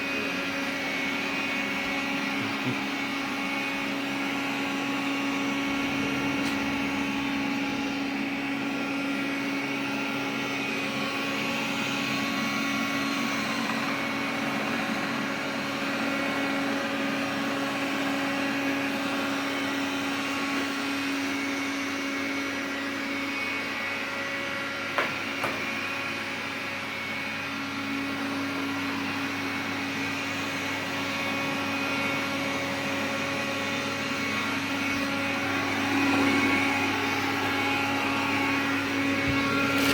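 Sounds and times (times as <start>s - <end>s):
vacuum cleaner humming: 0.0s - 39.9s.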